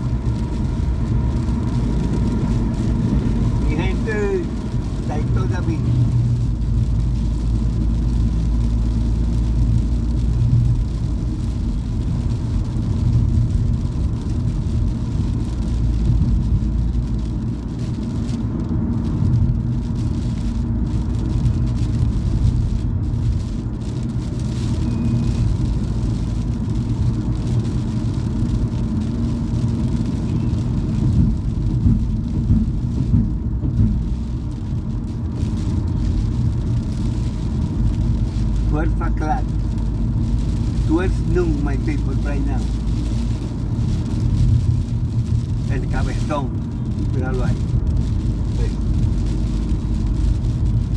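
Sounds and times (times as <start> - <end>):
car engine rumble: 0.0 - 50.9.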